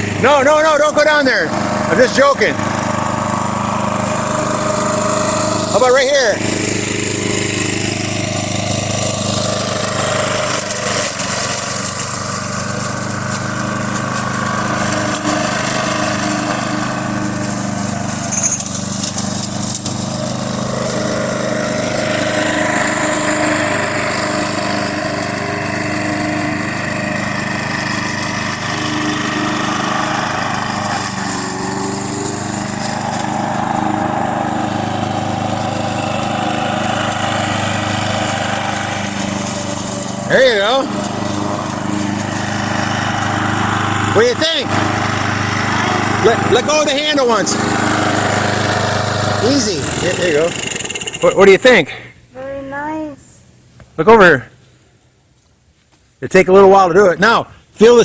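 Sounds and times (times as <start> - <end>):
lawn mower running: 0.0 - 58.0.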